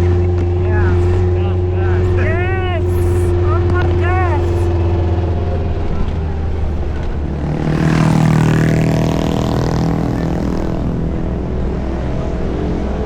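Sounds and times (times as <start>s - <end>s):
car engine running under throttle: 0.0s - 13.0s.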